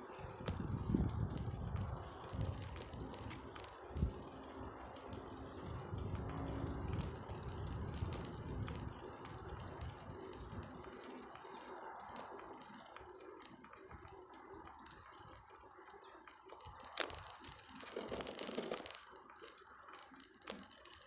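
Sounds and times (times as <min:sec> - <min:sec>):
bicycle freewheel ticking: 0:00.0 - 0:21.0
low rumble of bicycle riding: 0:00.0 - 0:21.0.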